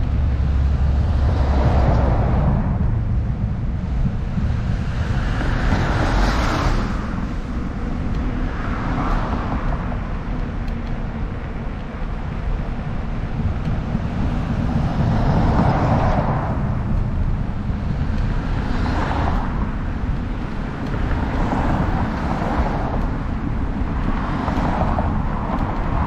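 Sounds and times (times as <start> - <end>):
road traffic passing: 0.0 - 26.0
wind rumbling on microphone: 0.0 - 26.0.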